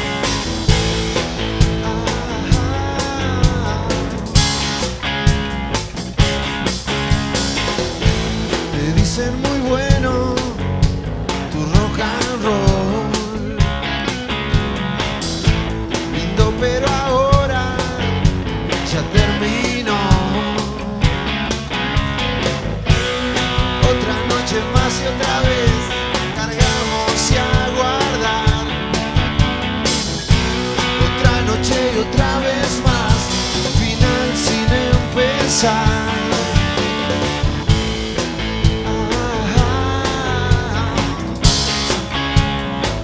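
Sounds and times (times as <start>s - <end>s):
rock band playing live: 0.0s - 43.0s
steady drum beat: 0.0s - 43.0s.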